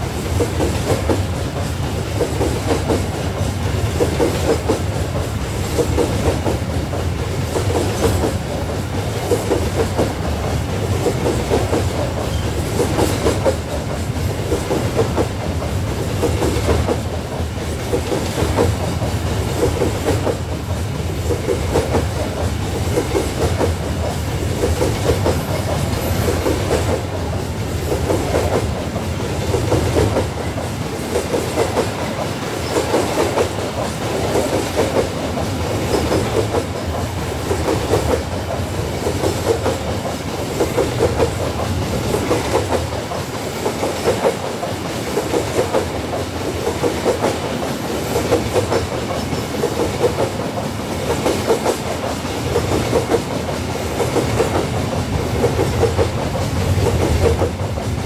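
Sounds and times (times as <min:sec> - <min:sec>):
low rumble of freight train: 0:00.0 - 0:58.0
train wheels clacking over rail joints: 0:00.0 - 0:58.0.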